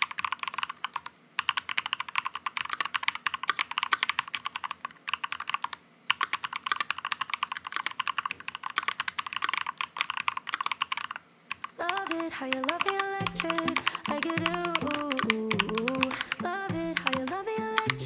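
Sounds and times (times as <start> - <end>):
fast typing on mechanical keyboard: 0.0 - 18.0.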